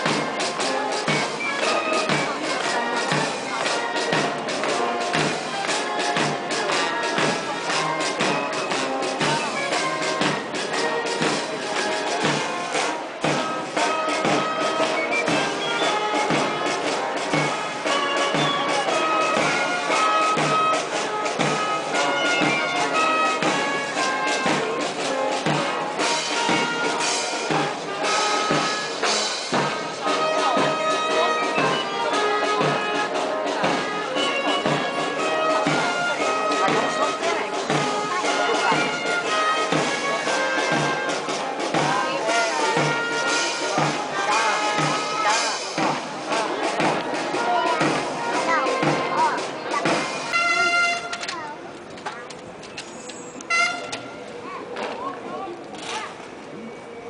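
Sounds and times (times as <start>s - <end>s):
brass band playing a march: 0.0s - 51.6s, 53.4s - 54.3s.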